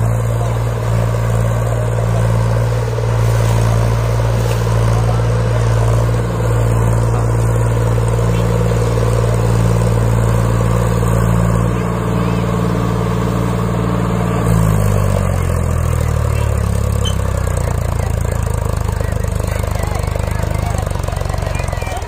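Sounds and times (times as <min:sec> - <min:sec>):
tractor diesel engine revving: 0:00.0 - 0:22.0.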